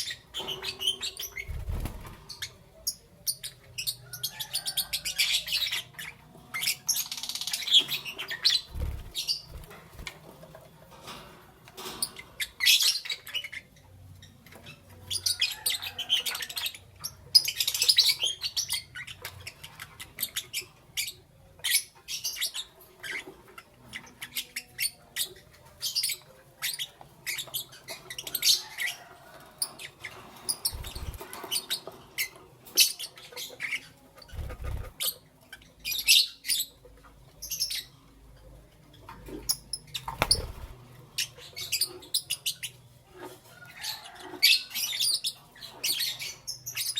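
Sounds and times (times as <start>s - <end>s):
lovebirds chirping and squawking: 0.0s - 46.9s.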